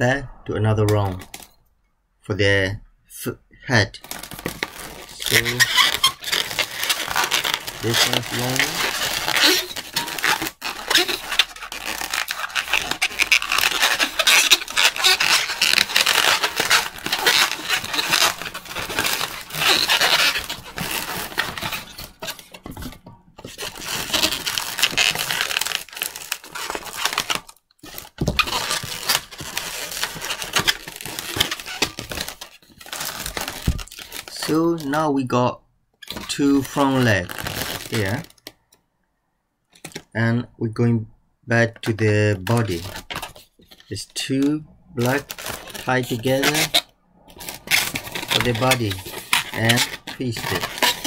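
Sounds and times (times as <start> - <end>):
balloons rubbing and squeaking: 4.0 - 35.0, 36.0 - 38.4, 41.6 - 51.0.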